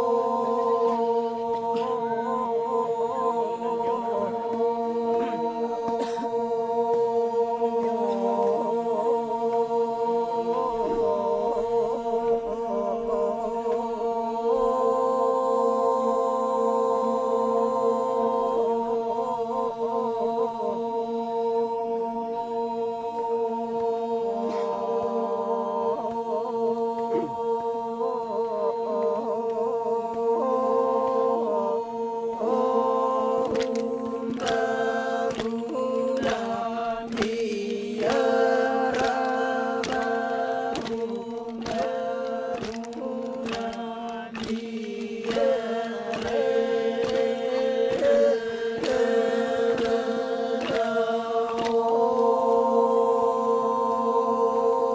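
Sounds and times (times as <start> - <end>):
men chanting in unison: 0.0 - 54.9.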